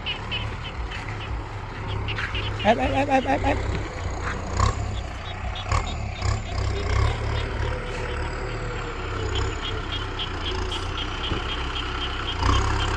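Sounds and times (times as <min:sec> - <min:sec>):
tractor diesel engine running: 0:00.0 - 0:12.9.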